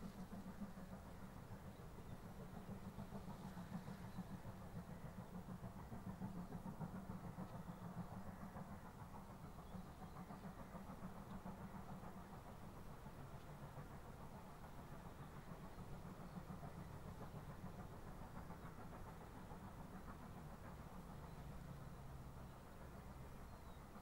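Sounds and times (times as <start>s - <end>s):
distant steam locomotive chuffing: 0.0s - 24.0s.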